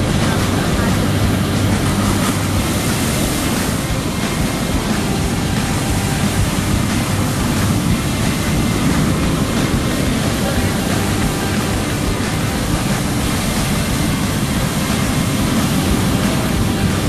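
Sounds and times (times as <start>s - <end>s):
deep rumble: 0.0s - 17.0s
waves breaking and churning: 0.0s - 17.0s.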